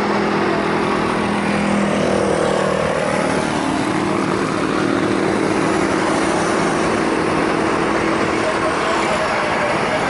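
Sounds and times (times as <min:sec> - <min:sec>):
jet engines at high power: 0:00.0 - 0:10.0.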